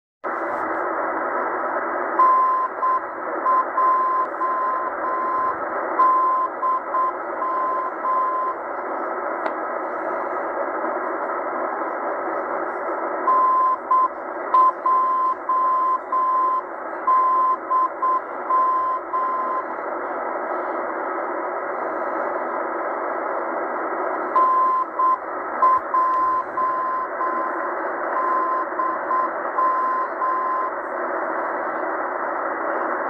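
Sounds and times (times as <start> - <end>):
radio static hiss: 0.2 - 33.0.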